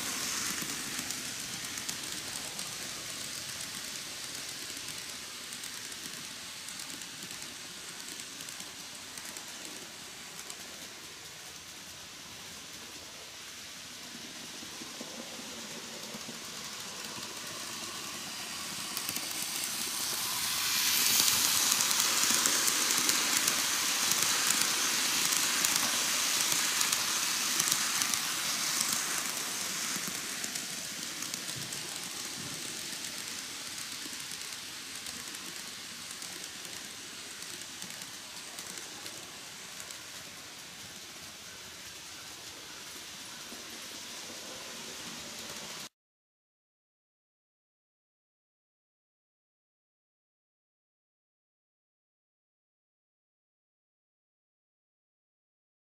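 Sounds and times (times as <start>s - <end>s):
model train wheels rattling: 0.0s - 45.9s.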